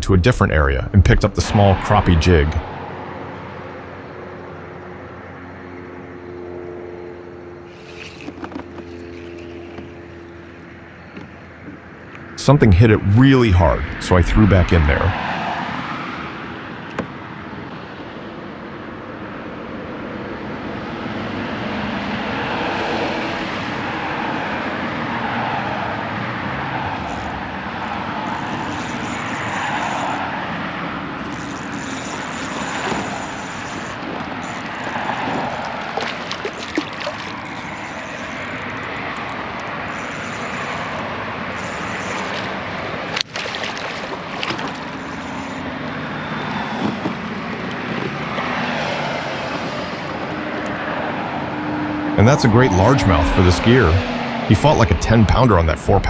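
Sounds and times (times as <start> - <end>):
road traffic rushing: 0.0 - 56.0.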